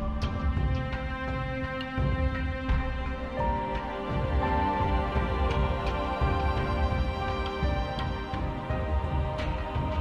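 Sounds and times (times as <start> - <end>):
background music with pulsing bass: 0.0 - 10.0.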